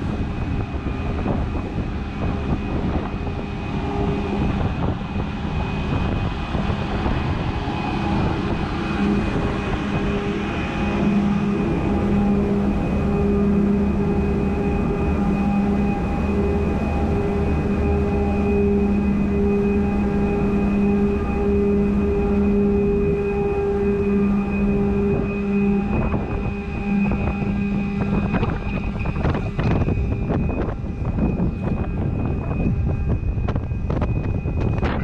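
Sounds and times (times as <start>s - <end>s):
ferry engine drone: 0.0s - 35.0s.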